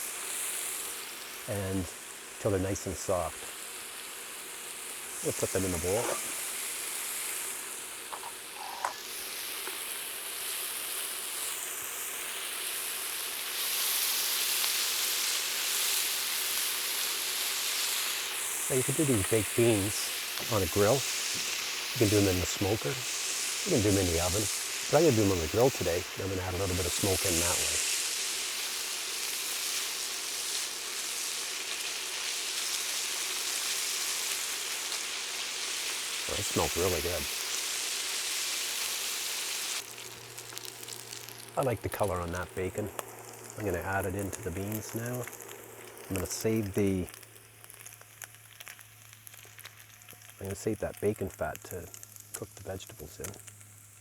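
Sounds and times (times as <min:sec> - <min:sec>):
bacon sizzling in frying pan: 0:00.0 - 0:54.0.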